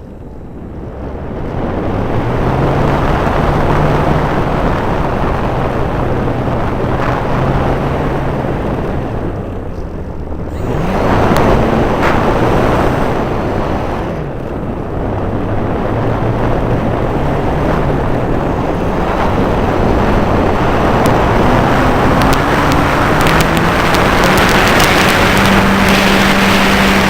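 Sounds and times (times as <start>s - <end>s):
model airplane engine droning: 0.0s - 27.0s
wind noise on microphone: 0.0s - 27.0s.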